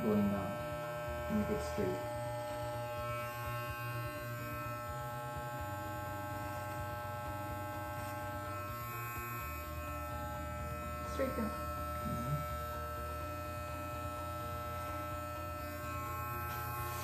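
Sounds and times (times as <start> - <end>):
electric hair trimmer buzzing: 0.0 - 17.0.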